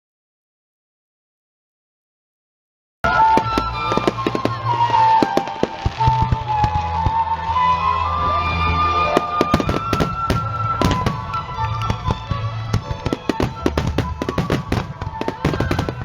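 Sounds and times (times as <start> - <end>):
fireworks bursting and crackling: 3.0 - 16.0.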